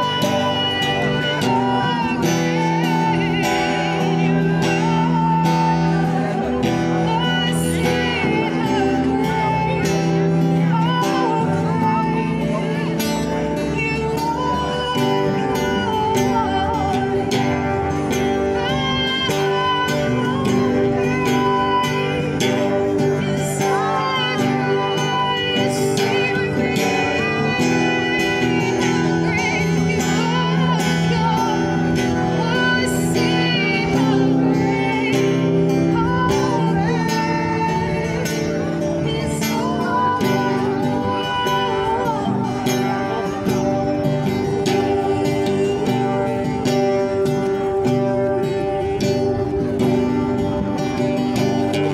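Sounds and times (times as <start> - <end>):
acoustic guitar strumming: 0.0 - 51.9
woman singing: 0.0 - 51.9.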